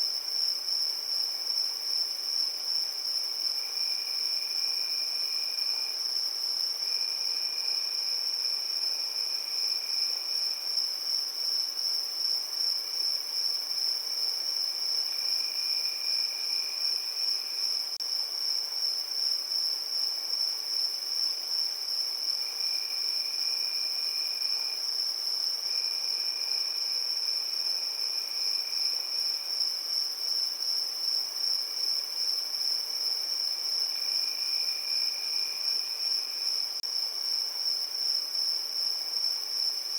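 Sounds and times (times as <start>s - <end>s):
lower-pitched cricket trill: 0.0s - 39.9s.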